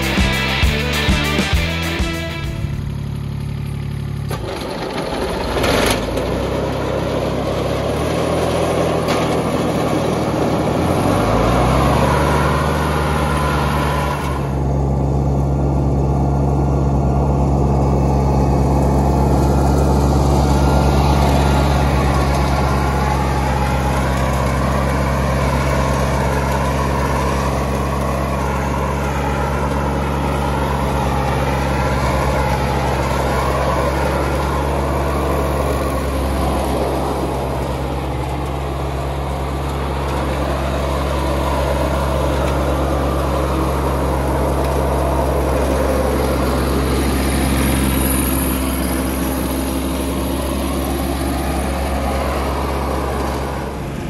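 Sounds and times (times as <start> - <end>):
mower diesel engine running: 0.0 - 54.0.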